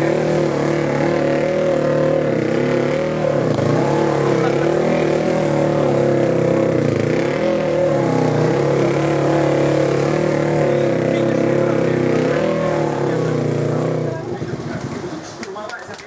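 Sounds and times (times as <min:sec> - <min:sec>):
motorcycle engine under throttle: 0:00.0 - 0:16.0.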